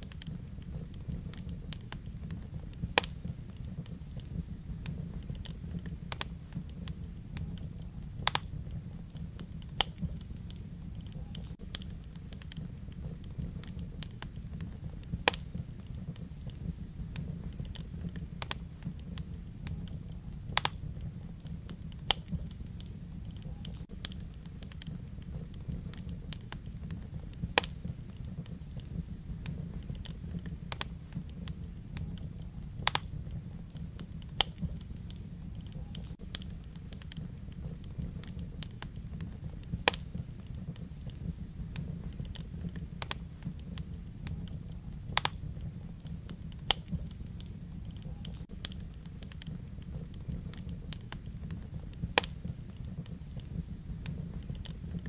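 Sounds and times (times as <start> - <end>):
low rumble of fire: 0.0 - 55.0
wood fire crackling and popping: 0.0 - 55.0.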